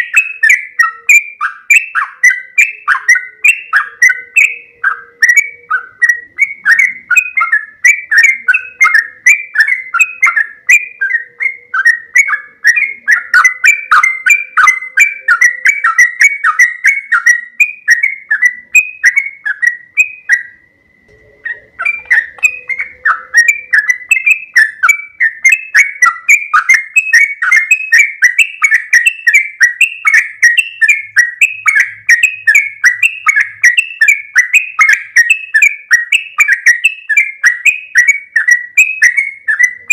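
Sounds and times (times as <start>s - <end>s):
bulbul singing warbled notes: 0.0s - 39.9s.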